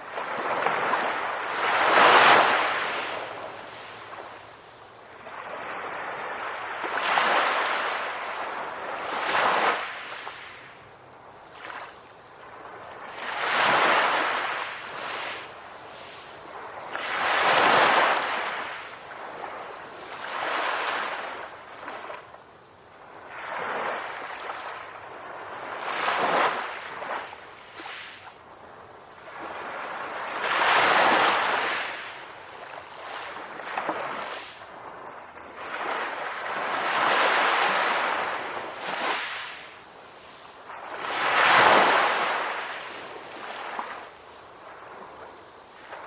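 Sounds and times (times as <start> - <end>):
ocean waves breaking on shore: 0.0 - 46.0.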